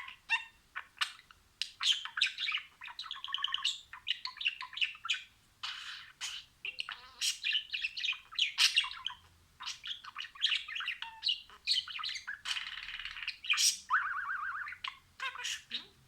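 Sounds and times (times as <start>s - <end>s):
budgerigars chirping and warbling: 0.0s - 16.0s.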